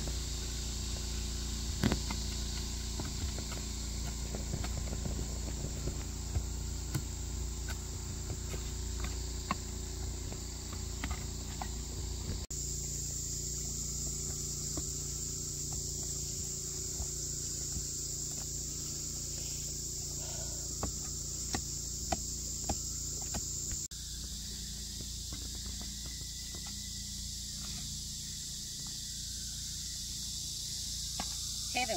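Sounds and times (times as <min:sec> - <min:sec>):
high-pitched insect drone: 0:00.0 - 0:31.9.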